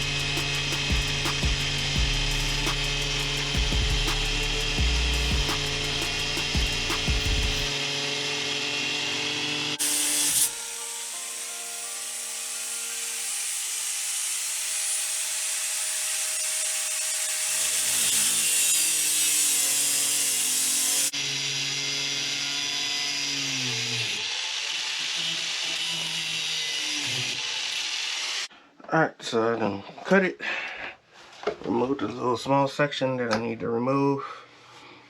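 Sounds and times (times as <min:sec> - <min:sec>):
power saw cutting wood: 0:00.0 - 0:28.5.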